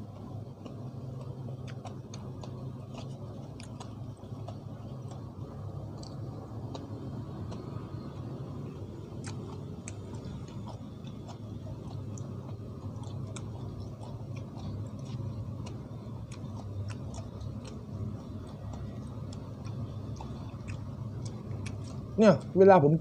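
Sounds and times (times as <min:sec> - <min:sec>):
person chewing wetly: 0:00.0 - 0:22.6
steady low hum: 0:00.0 - 0:23.0.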